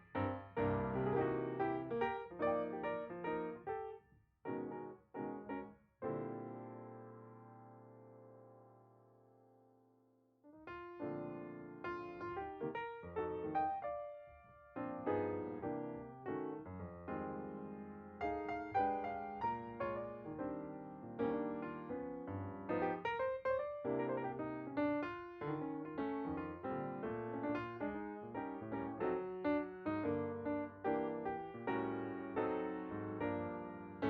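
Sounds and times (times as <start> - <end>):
piano music: 0.0 - 8.8, 10.6 - 34.0.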